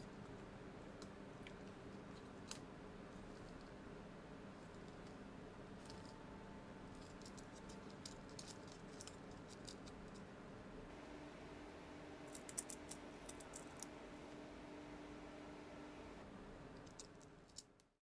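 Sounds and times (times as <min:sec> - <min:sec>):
faint room hiss: 0:00.0 - 0:18.0.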